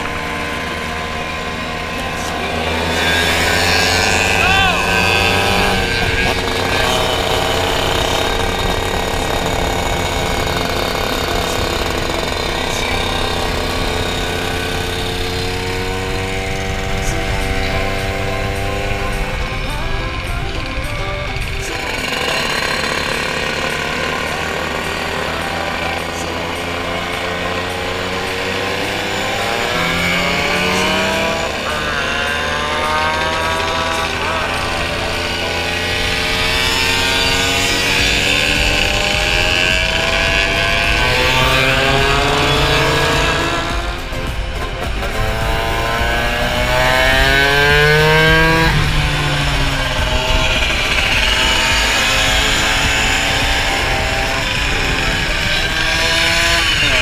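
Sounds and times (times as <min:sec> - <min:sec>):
scooter engine buzzing: 0:00.0 - 0:57.0.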